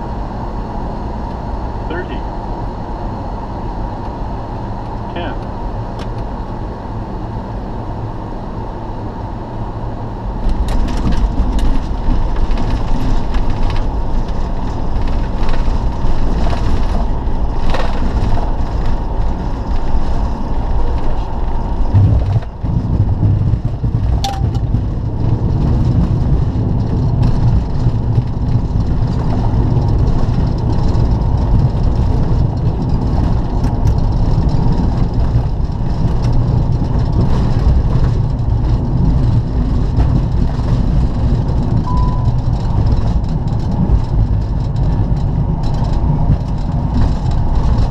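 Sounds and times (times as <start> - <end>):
jet cockpit airflow and engine: 0.0 - 47.9.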